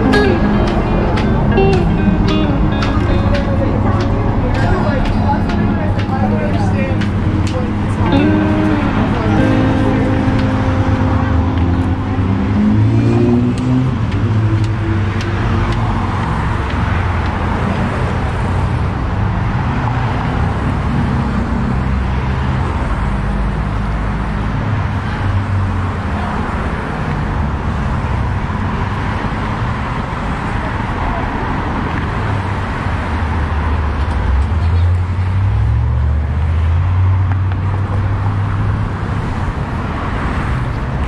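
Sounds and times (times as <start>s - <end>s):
highway traffic rushing: 0.0s - 41.0s.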